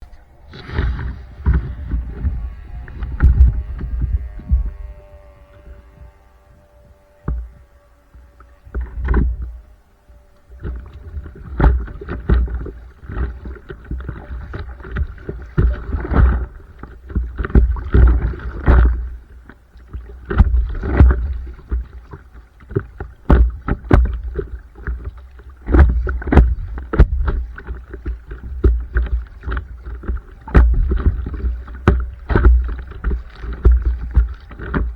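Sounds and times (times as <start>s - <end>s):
paddle splashing in water: 0.0s - 34.9s
wind rumbling on microphone: 0.0s - 34.9s.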